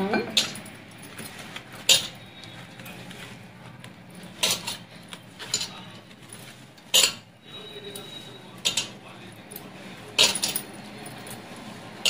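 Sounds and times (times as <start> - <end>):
glass bangles clinking: 0.0 - 2.4, 4.2 - 12.0.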